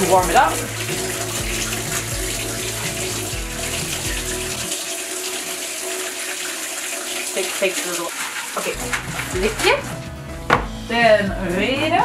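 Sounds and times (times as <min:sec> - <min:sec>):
tap running into plastic bucket: 0:00.0 - 0:10.6.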